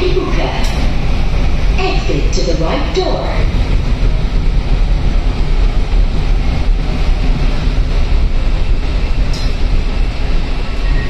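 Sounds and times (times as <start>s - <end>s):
train rumbling from inside: 0.0s - 11.0s.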